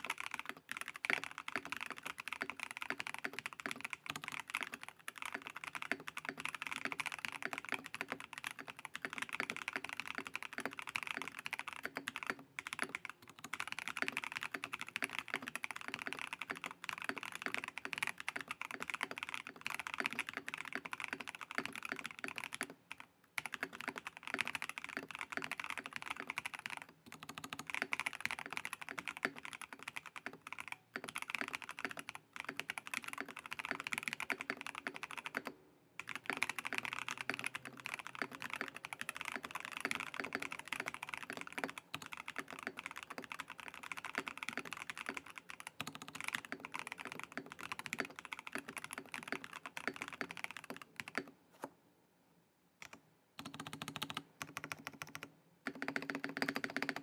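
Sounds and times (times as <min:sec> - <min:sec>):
mechanical keyboard typing: 0:00.0 - 0:51.7, 0:52.8 - 0:57.0.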